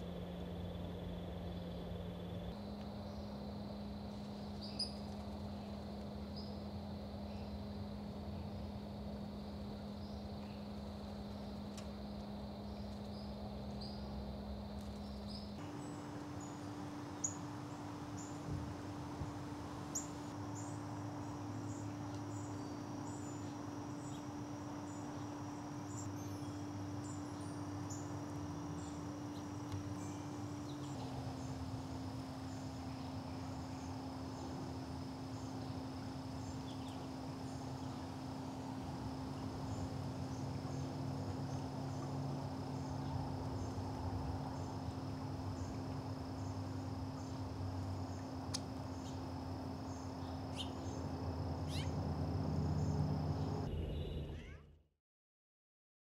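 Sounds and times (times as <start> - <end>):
steady low hum: 0.0 - 54.4
high-pitched insect chirping: 0.5 - 53.7.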